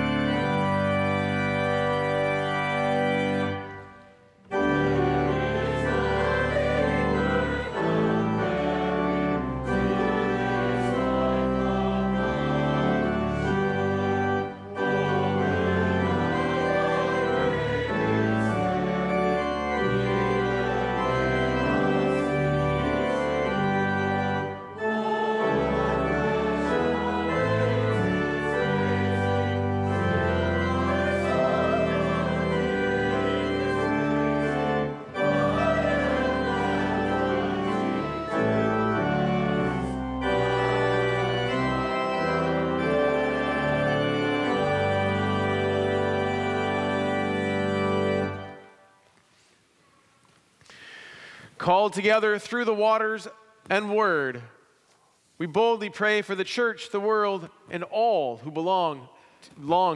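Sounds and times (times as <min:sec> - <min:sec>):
church organ playing chords: 0:00.0 - 0:48.9.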